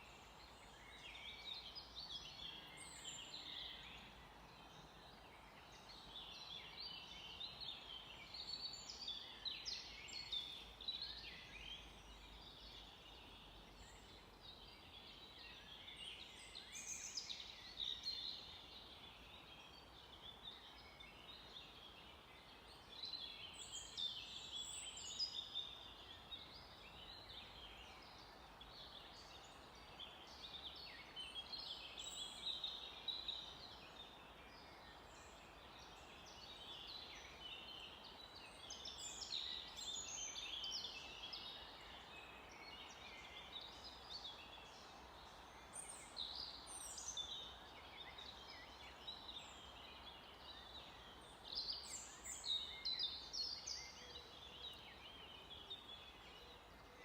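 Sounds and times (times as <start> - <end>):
faint steady background hiss: 0.0 - 57.0
small birds singing and chirping: 0.0 - 57.0.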